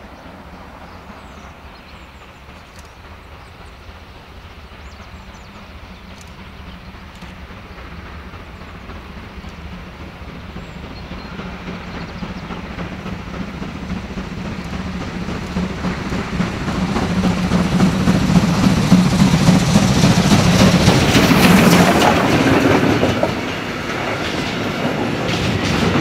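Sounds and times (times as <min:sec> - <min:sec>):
steam locomotive approaching: 0:00.0 - 0:26.0.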